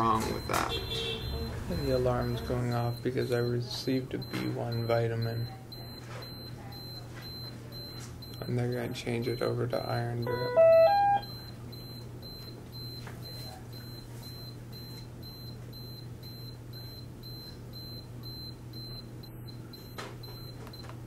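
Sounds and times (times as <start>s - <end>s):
infusion pump alarm beeping: 0.0s - 20.9s.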